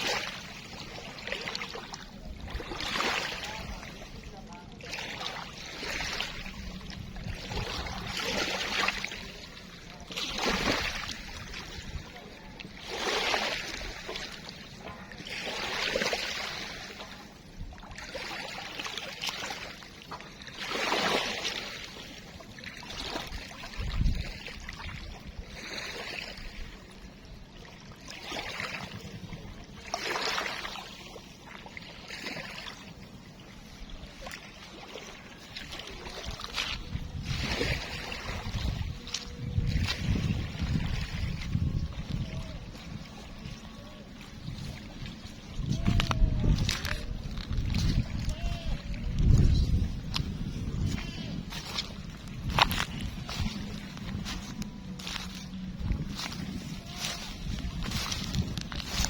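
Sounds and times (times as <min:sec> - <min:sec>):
water lapping in small waves: 0:00.0 - 0:59.0.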